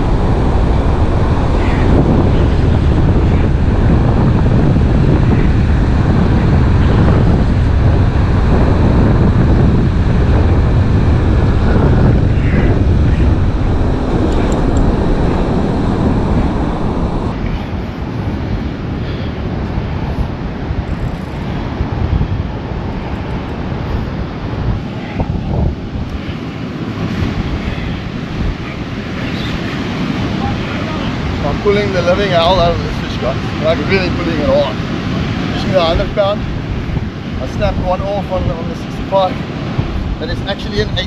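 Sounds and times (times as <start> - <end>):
surf on shore: 0.0 - 41.0
wind buffeting microphone: 0.0 - 41.0.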